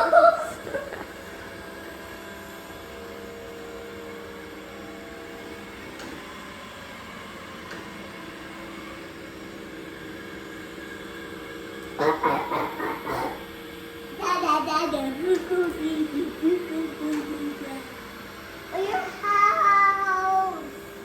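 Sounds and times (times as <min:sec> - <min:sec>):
robot vacuum motor hum: 0:00.0 - 0:21.0.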